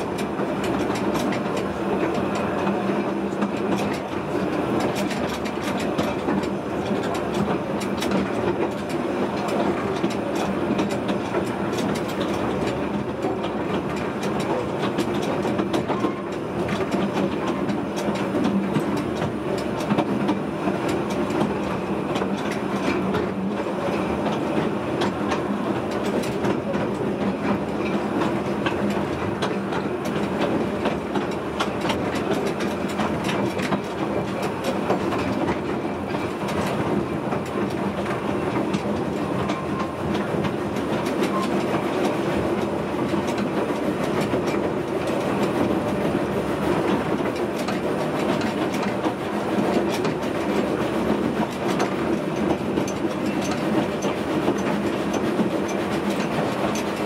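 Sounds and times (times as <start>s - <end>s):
clicks over rail joints: 0.0s - 57.0s
train wheels rumbling on track: 0.0s - 57.0s.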